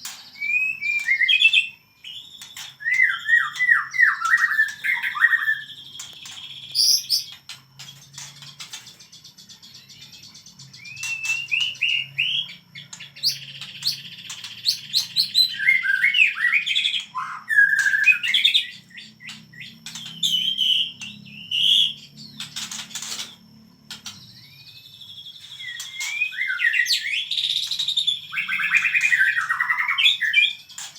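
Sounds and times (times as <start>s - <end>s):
songbird singing whistled phrases: 0.0s - 7.5s, 9.2s - 22.4s, 24.0s - 30.8s.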